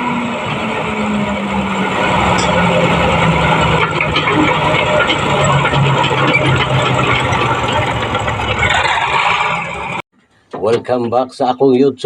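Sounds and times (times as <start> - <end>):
heavy diesel engine running: 0.0 - 10.0
machinery clatter: 0.0 - 10.0.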